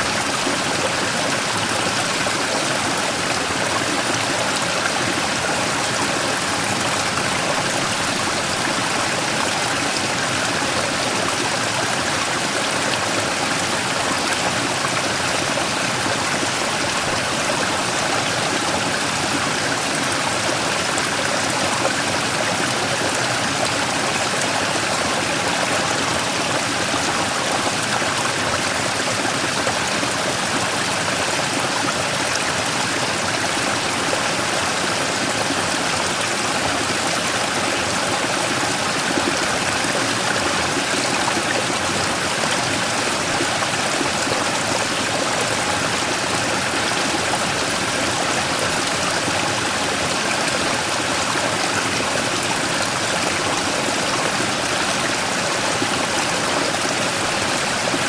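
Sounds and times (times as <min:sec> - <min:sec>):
stream rushing over rock: 0:00.0 - 0:58.0.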